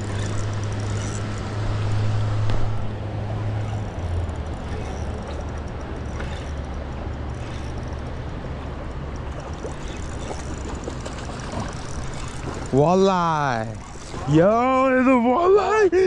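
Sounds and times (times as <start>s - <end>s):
constant low rumble: 0.0s - 16.0s.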